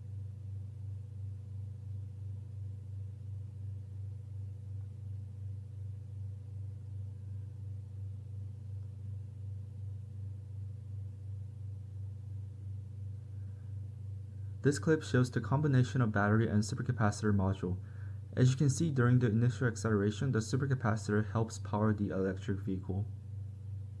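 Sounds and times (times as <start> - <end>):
pulsing low hum: 0.0 - 24.0.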